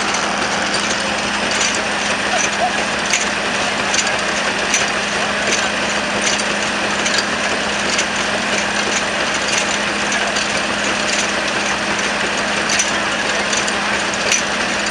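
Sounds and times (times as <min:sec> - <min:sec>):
frame saw sawing a log: 0:00.0 - 0:14.9.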